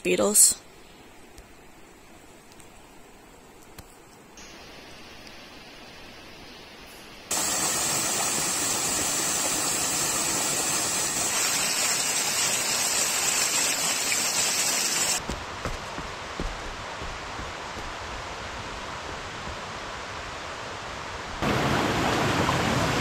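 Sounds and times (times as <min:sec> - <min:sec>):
rushing water hiss: 0:04.4 - 0:23.0.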